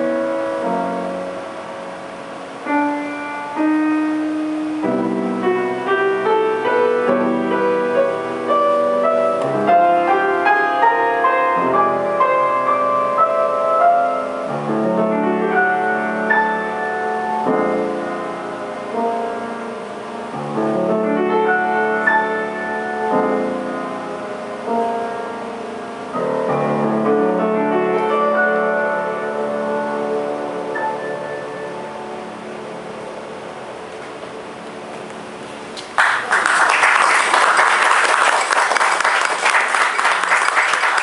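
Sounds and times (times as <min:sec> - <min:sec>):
grand piano classical piece: 0:00.0 - 0:41.0.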